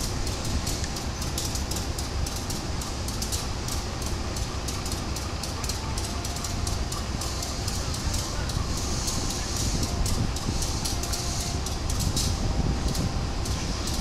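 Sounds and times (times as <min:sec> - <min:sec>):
high ticks: 0:00.0 - 0:14.0
train rumbling over points: 0:00.0 - 0:14.0.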